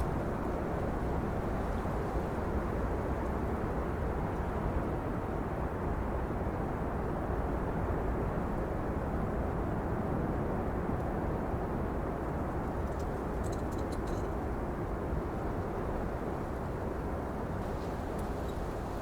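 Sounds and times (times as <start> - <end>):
wind blowing steadily: 0.0 - 19.0.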